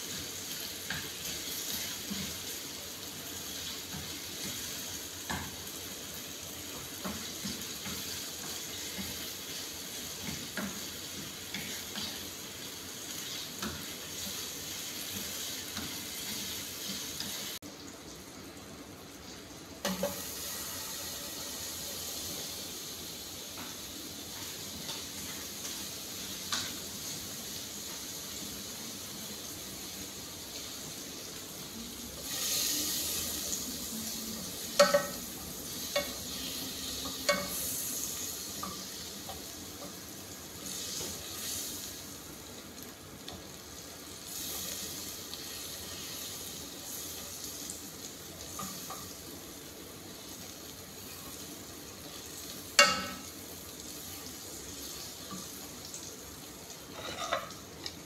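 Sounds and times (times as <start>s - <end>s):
onions sizzling in a saucepan: 0.0s - 58.0s.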